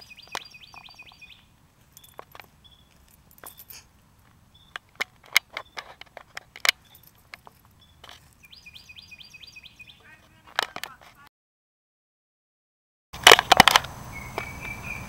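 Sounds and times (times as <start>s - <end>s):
birds chirping: 0.0s - 11.3s, 13.9s - 15.0s.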